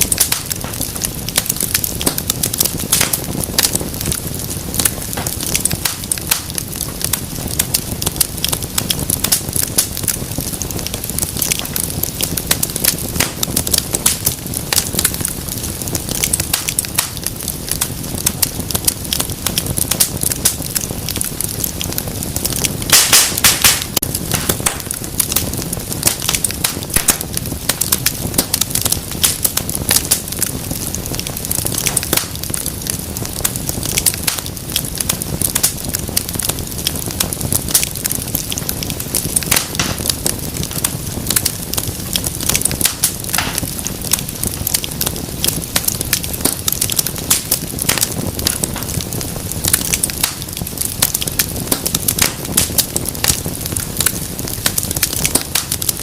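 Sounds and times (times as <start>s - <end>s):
fire crackling: 0.0s - 56.0s
loud fire pops: 0.0s - 56.0s.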